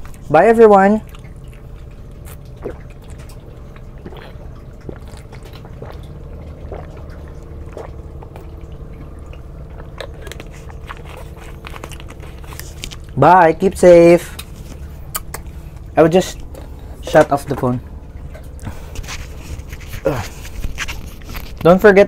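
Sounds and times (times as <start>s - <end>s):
steady low hum: 0.0s - 22.0s
swallowing gulps: 1.0s - 21.6s.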